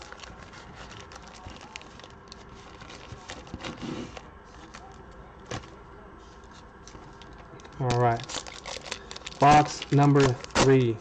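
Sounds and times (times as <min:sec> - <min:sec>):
foil card packs crinkling: 0:00.0 - 0:05.8, 0:06.8 - 0:11.0.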